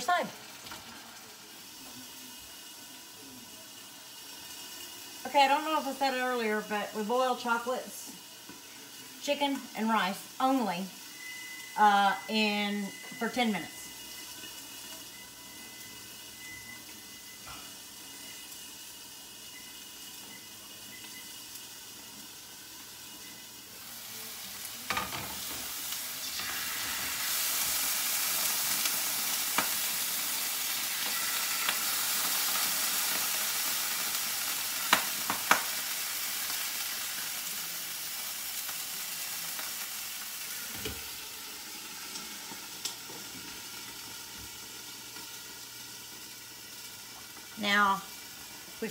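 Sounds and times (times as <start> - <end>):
chicken sizzling in a pan: 0.0 - 48.9.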